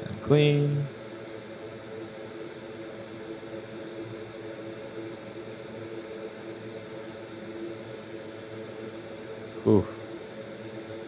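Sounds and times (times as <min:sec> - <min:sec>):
small fan whirring: 0:00.0 - 0:11.0.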